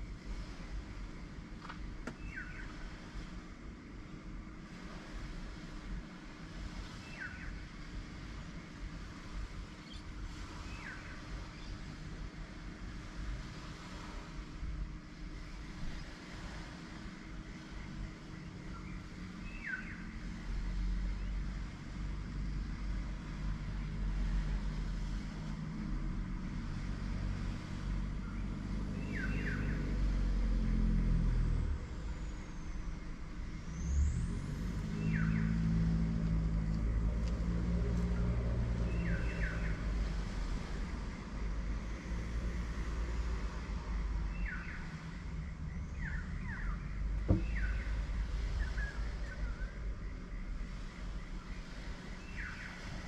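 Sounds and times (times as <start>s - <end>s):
low engine drone: 0.0s - 53.0s.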